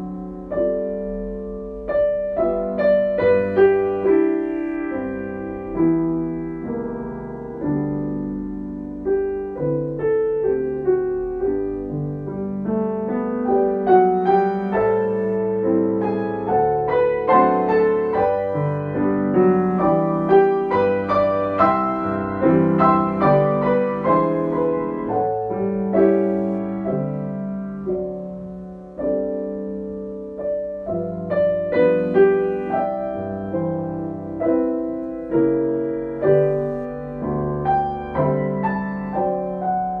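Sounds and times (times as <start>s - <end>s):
solo piano music: 0.0s - 40.0s.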